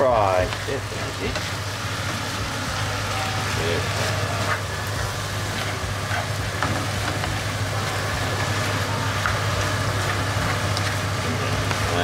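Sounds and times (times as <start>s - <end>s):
food sizzling in a pan: 0.0s - 12.0s
steady low hum: 0.0s - 12.0s.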